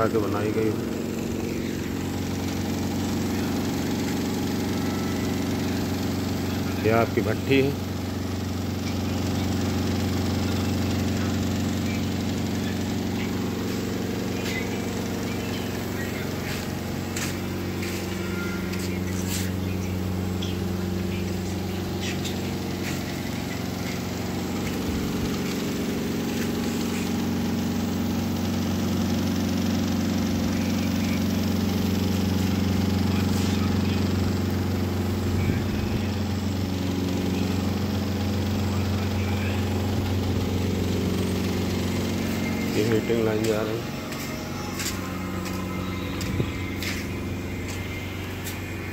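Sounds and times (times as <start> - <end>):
machinery humming: 0.0 - 48.9.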